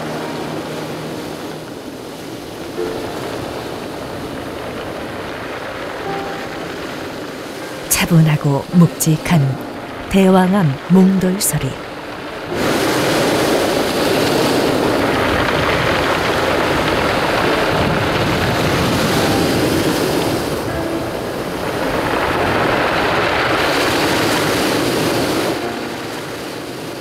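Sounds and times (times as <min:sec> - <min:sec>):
waves washing over pebbles: 0:00.0 - 0:07.8, 0:09.4 - 0:27.0.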